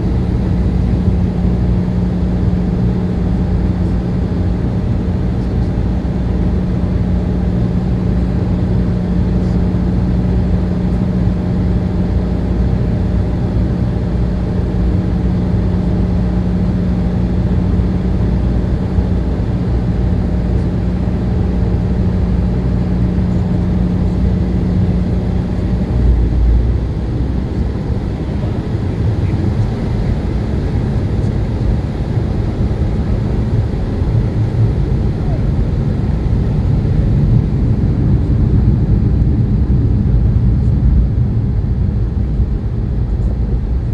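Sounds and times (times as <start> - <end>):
jet engine cabin rumble: 0.0 - 43.9
steady low hum: 0.0 - 43.9.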